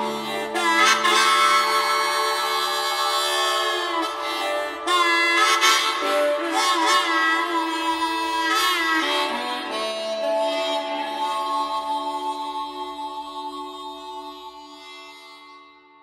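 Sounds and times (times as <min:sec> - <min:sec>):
reedy harmonica-like melody: 0:00.0 - 0:16.0.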